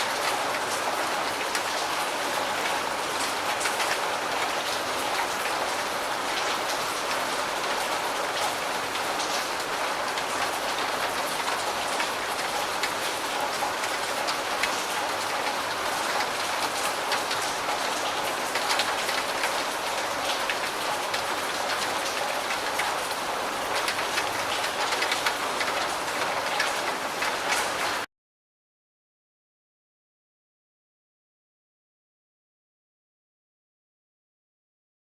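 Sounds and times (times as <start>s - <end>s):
rain on a roof: 0.0s - 28.1s.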